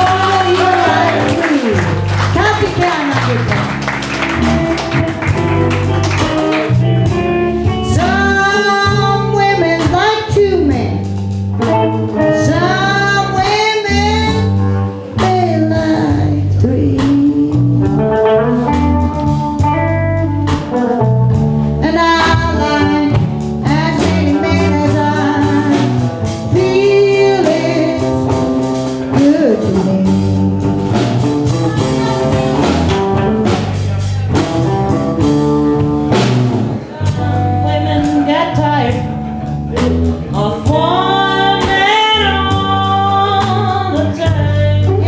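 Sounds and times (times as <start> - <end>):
bending lead guitar melody: 0.0 - 45.0
live blues band: 0.0 - 45.0.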